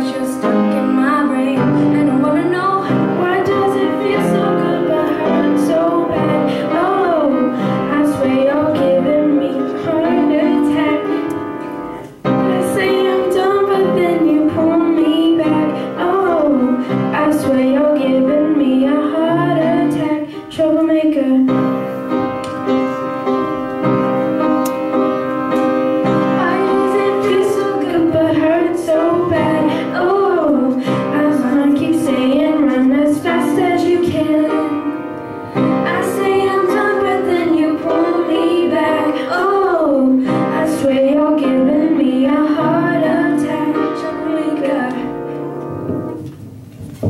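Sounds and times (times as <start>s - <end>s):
girls singing pop song: 0.0s - 21.8s, 25.6s - 46.2s
piano accompaniment: 0.0s - 47.0s.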